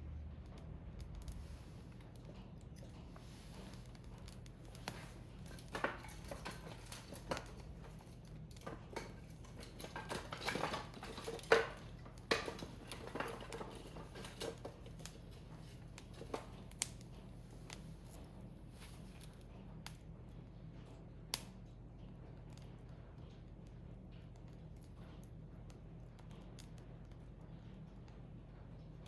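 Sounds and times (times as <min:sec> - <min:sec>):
firewood crackling and popping: 0:00.0 - 0:29.0.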